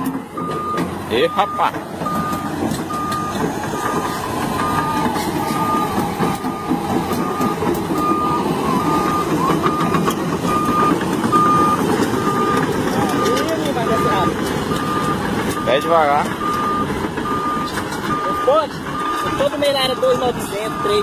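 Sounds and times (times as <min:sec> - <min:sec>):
diesel engine running: 0:00.0 - 0:21.0
reversing alarm beeping: 0:00.0 - 0:21.0.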